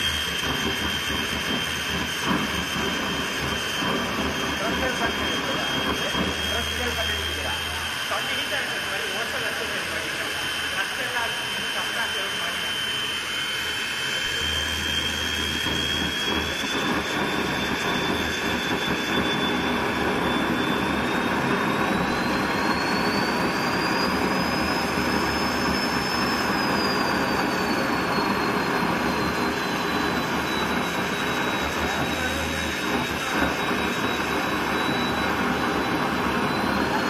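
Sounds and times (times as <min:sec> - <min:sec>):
high turbine whistle: 0:00.0 - 0:37.0
jet engine roar: 0:00.0 - 0:37.0.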